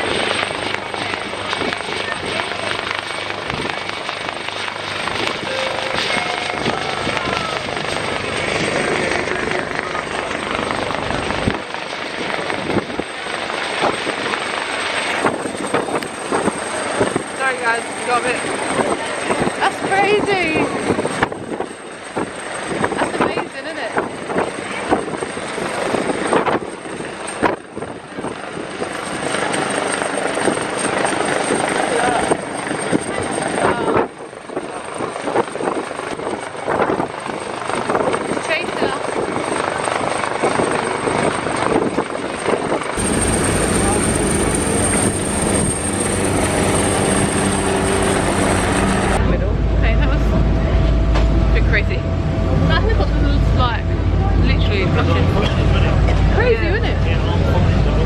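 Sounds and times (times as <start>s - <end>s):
helicopter rotor beating: 0.0s - 58.0s
rush of wind and water: 0.0s - 58.0s.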